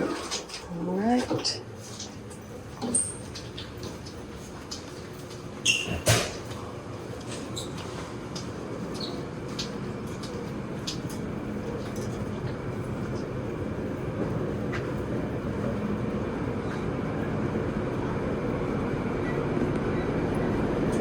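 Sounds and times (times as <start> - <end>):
machinery and ventilation rumble: 0.0 - 21.0.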